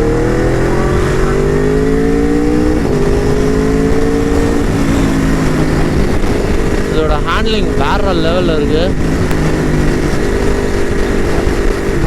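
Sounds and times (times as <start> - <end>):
motorcycle engine accelerating: 0.0 - 12.0
wind rushing across microphone: 0.0 - 12.0.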